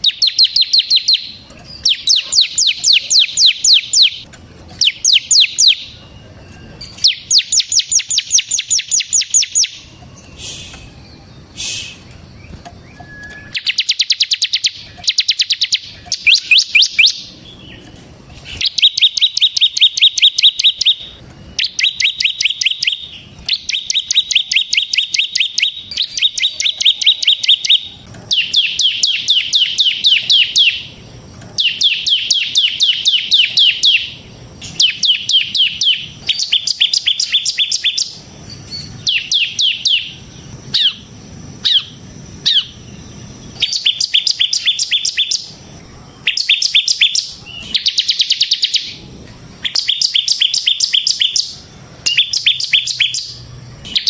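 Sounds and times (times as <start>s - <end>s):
bird singing rapid trill: 0.0s - 54.0s.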